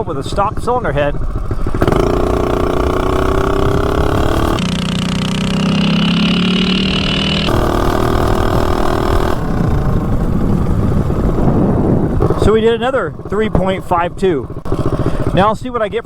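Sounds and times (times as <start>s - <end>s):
small engine at full throttle: 0.5s - 15.5s.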